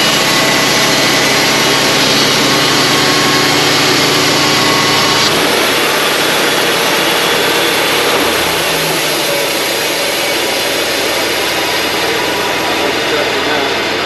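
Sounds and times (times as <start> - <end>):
band sawmill cutting log: 0.0 - 14.0.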